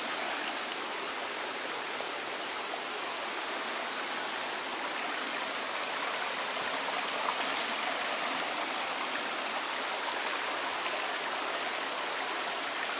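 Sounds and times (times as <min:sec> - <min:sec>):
stream running over stones: 0:00.0 - 0:12.9.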